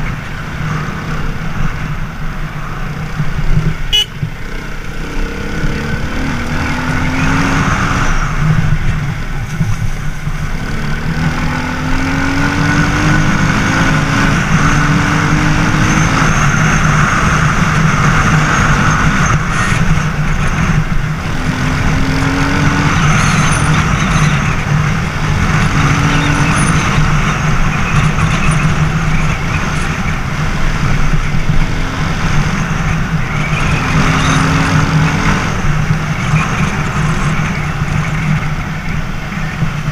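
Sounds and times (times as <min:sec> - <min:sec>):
motorcycle engine revving: 0:00.0 - 0:38.8.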